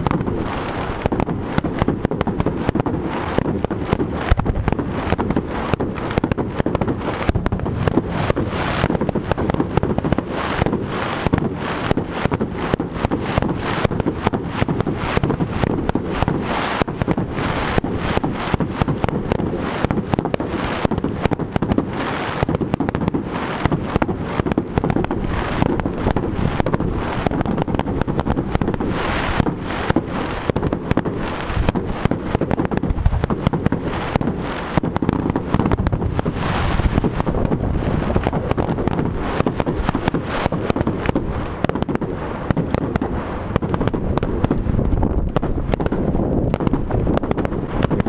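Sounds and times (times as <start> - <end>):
fireworks banging and crackling: 0.0 - 48.0
wind buffeting microphone: 0.0 - 48.0.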